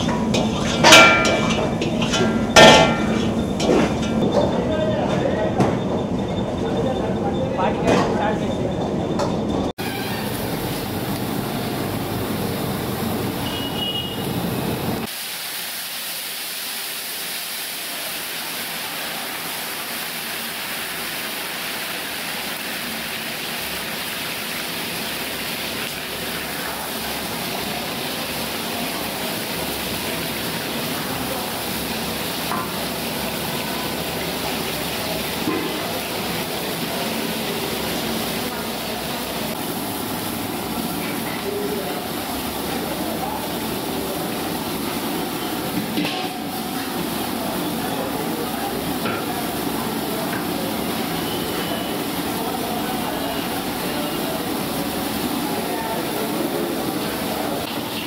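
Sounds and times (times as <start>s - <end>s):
hot oil sizzling and bubbling: 0.0s - 6.6s, 9.7s - 58.0s.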